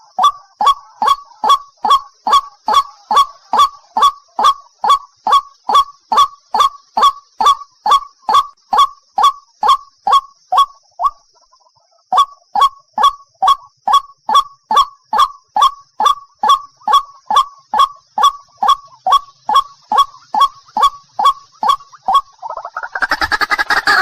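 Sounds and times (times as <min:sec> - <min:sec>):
waterhen calling: 0:00.0 - 0:24.0.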